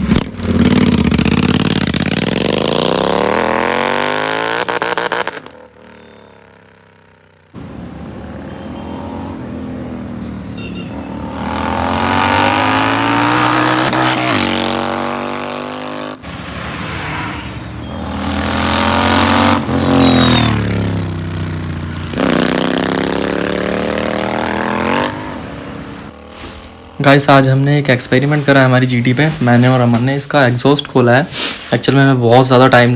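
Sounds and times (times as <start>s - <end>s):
motorcycle engine revving: 0.0s - 30.1s.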